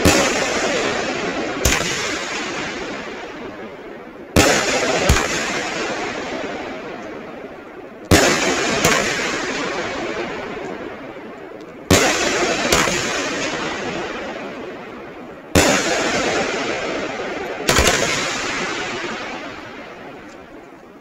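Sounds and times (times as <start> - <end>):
firework bangs: 0.0 - 21.0.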